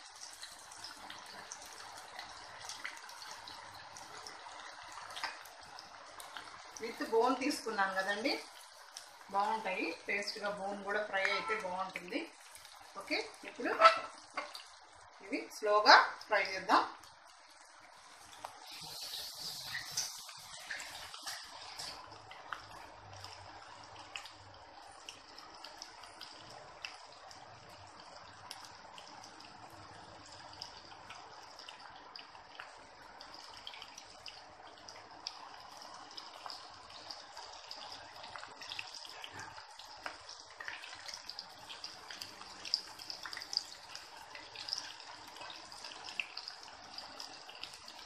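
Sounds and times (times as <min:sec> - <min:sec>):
oil crackles and pops: 0:00.0 - 0:10.4, 0:11.2 - 0:15.2, 0:16.1 - 0:48.0
food deep-frying in oil: 0:00.0 - 0:48.0.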